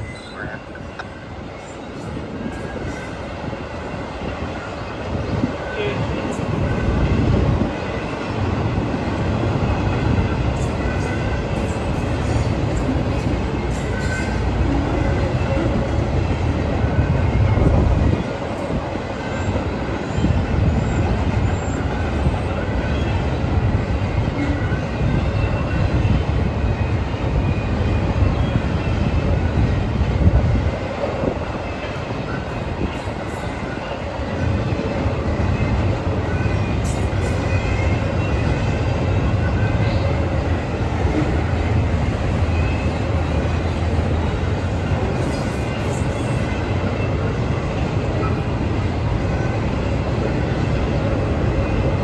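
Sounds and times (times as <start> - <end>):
freight train rumbling on rails: 0.0 - 52.0.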